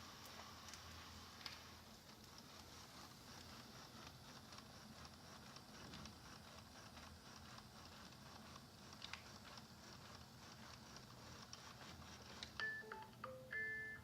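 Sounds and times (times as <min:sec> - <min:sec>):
robot vacuum running: 0:00.0 - 0:13.9.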